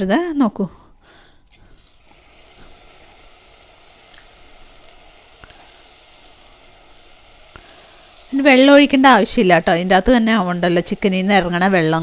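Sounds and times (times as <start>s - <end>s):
chicken sizzling in a pan: 1.6s - 12.0s.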